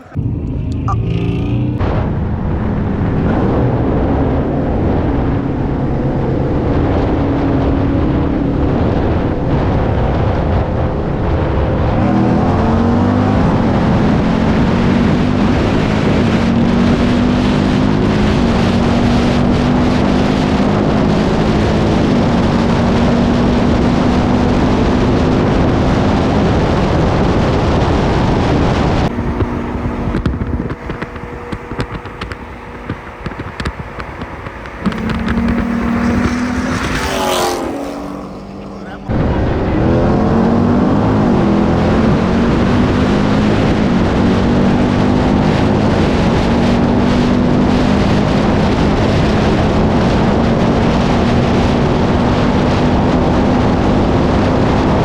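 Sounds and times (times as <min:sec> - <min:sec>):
car engine accelerating through gears: 0:00.0 - 0:55.0
wind and road noise: 0:00.0 - 0:55.0.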